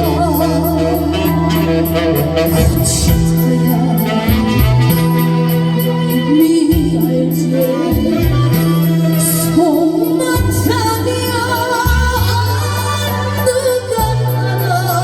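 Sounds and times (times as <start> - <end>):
person singing with vibrato: 0.0 - 15.0
recorded backing track: 0.0 - 15.0.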